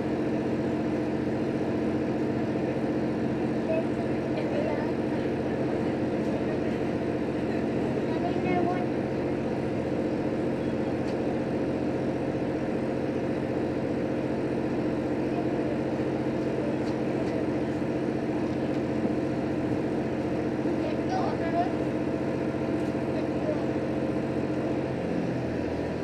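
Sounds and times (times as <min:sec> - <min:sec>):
diesel engine hum: 0:00.0 - 0:26.0
wheel and rail noise: 0:00.0 - 0:26.0.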